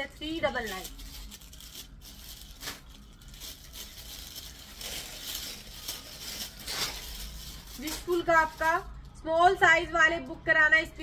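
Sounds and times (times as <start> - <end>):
packaging rustling and crinkling: 0.0 - 9.2.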